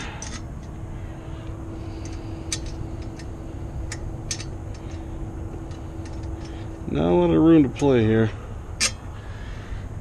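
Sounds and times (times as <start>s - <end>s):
faint steady hum: 0.0s - 10.0s
steady low rumble: 0.0s - 10.0s.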